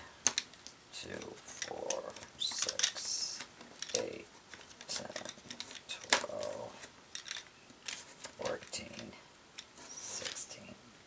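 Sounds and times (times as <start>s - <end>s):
wooden pencils clattering on table: 0.2s - 9.1s
pencils sliding together: 1.1s - 10.7s.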